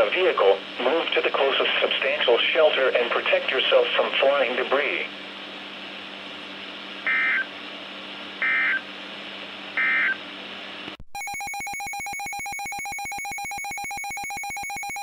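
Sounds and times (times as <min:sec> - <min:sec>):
receiver hiss and hum: 0:00.0 - 0:15.0.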